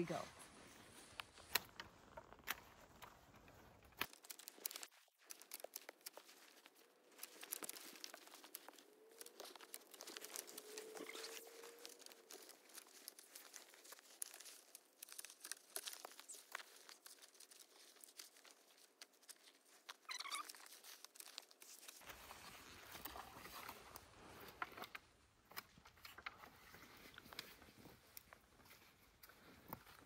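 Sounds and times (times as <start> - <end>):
twigs rustling and crackling: 0.0 - 30.0.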